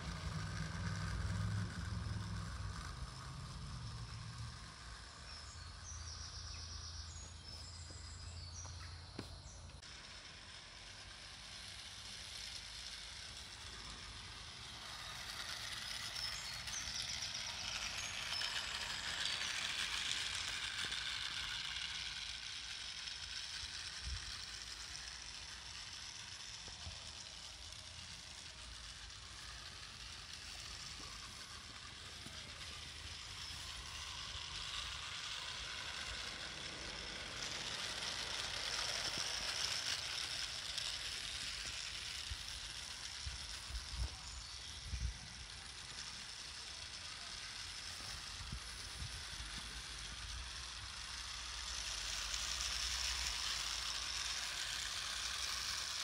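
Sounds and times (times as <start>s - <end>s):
model train wheels rattling: 0.0s - 56.0s.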